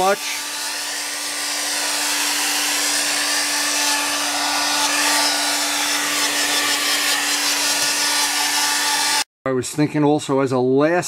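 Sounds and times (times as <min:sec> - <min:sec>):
hair dryer running: 0:00.0 - 0:09.3.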